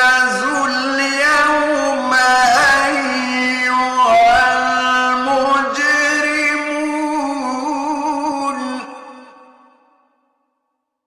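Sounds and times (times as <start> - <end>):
man chanting melodically: 0.0 - 9.9.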